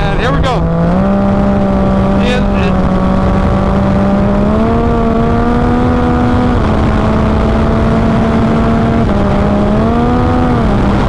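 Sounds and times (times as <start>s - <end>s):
motorcycle engine at high revs: 0.0s - 11.0s
wind noise: 0.0s - 11.0s.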